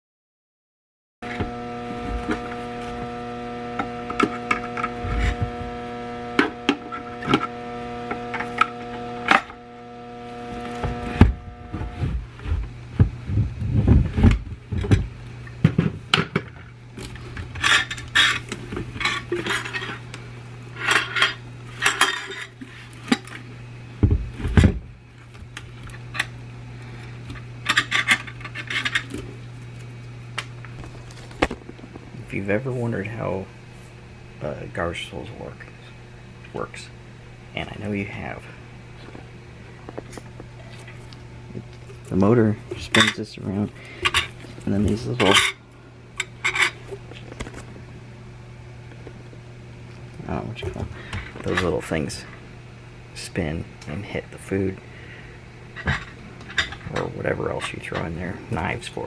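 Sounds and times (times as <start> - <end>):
low hum: 1.2 - 57.6.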